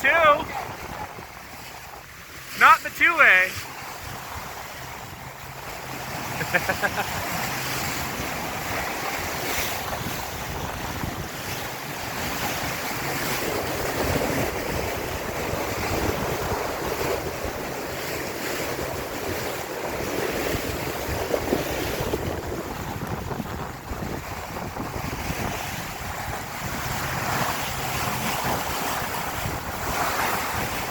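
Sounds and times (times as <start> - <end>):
wind buffeting microphone: 0.0 - 2.5, 3.6 - 6.3, 7.1 - 30.9
water rushing along hull: 0.0 - 30.9.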